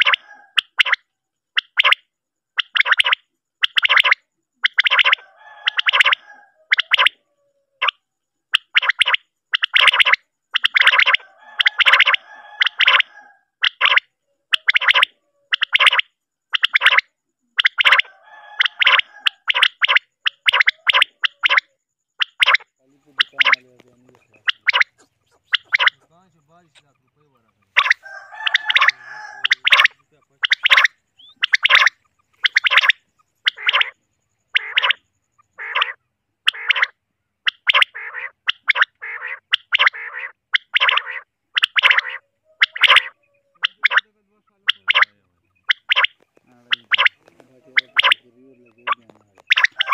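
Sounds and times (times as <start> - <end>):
quail calls: 0.0 - 49.9.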